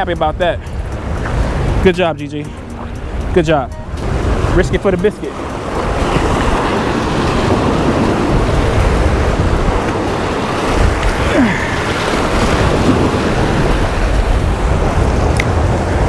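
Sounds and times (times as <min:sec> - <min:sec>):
wind on microphone: 0:00.0 - 0:16.0
surf breaking on rocks: 0:02.8 - 0:15.8.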